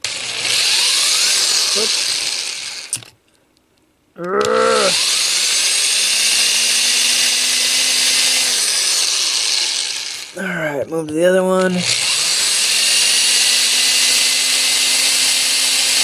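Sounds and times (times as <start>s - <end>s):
power drill whining: 0.0s - 3.2s, 4.4s - 10.5s, 11.6s - 16.0s.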